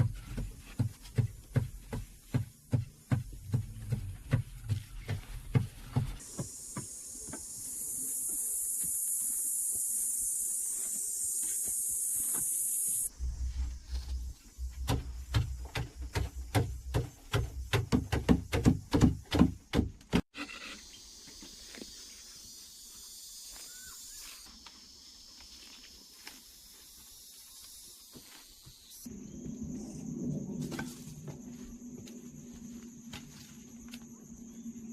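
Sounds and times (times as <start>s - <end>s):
faint outdoor ambience: 0.0s - 34.9s.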